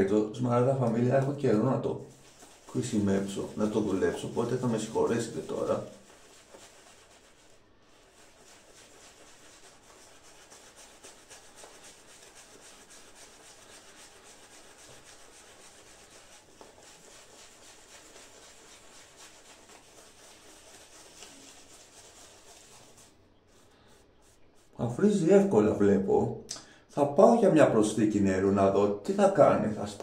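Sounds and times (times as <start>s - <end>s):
shaving brush rubbing lather: 0.0s - 25.5s, 29.1s - 30.0s.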